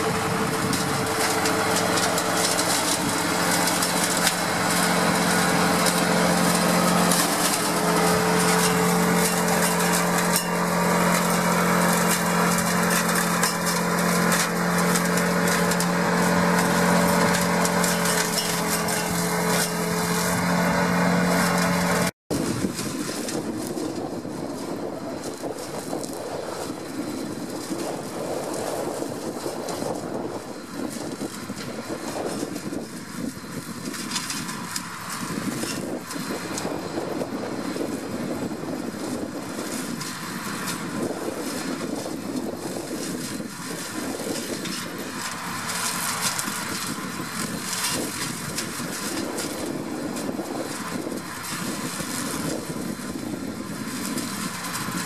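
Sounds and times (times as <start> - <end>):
hedge cutter crackling wood: 0.0 - 55.0
tractor diesel engine droning: 0.0 - 55.0.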